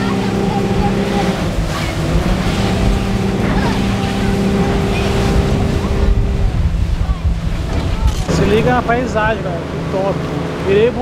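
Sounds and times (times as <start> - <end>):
motorboat engine running: 0.0 - 11.0
water rushing along hull: 0.0 - 11.0.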